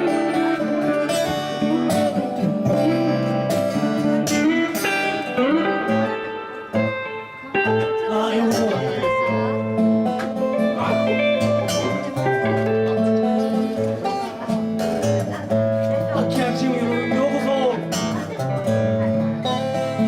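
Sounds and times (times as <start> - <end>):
blues band playing: 0.0 - 20.0
lead guitar bending notes: 0.0 - 20.0.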